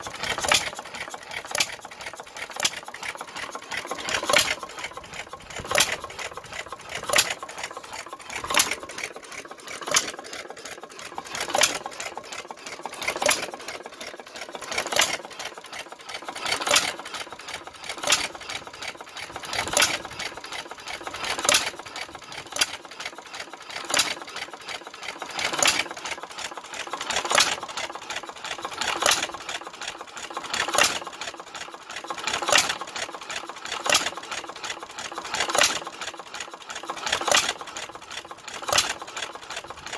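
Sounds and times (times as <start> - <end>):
light mechanical clicking: 0.0 - 24.3, 25.2 - 39.9.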